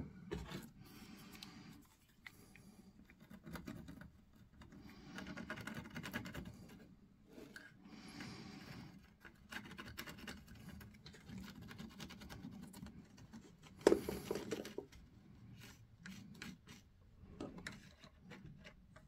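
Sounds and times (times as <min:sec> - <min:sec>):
small parts scratching and rubbing: 0:00.4 - 0:19.0.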